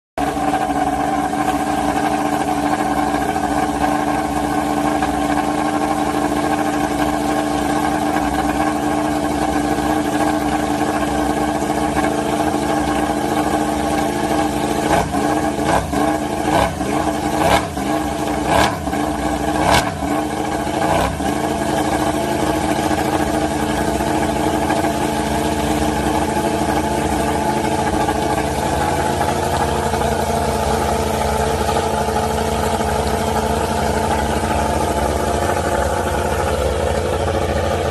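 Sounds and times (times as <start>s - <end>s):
motorcycle engine idling and revving: 0.2s - 37.9s.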